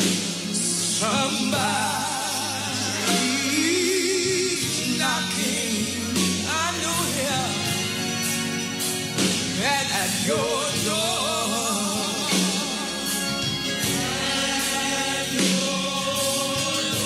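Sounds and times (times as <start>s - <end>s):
band accompaniment: 0.0s - 17.0s
person singing with vibrato: 0.3s - 8.2s, 9.6s - 17.0s.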